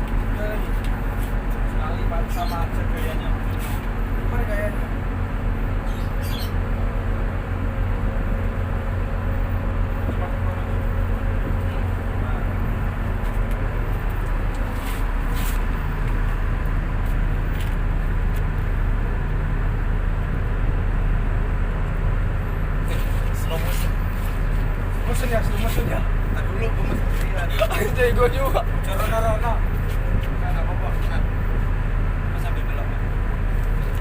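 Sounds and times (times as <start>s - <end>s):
diesel engines droning: 0.0s - 34.0s.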